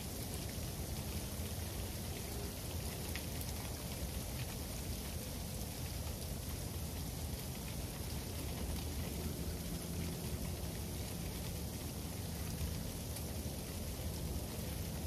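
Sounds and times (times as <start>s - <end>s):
freezing rain hissing: 0.0s - 15.0s
raindrops ticking on hard surfaces: 0.0s - 15.0s.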